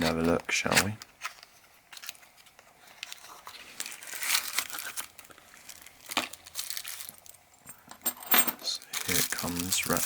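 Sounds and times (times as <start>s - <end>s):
paper packaging crinkling and tearing: 0.0s - 7.3s, 8.7s - 10.0s.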